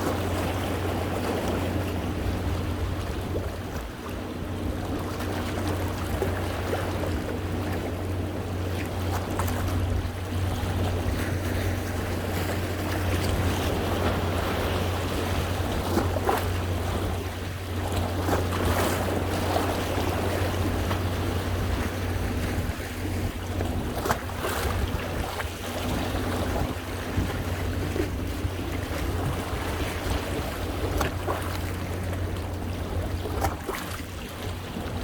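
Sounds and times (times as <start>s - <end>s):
constant low rumble: 0.0s - 35.0s
waves washing against rocks: 0.0s - 35.0s.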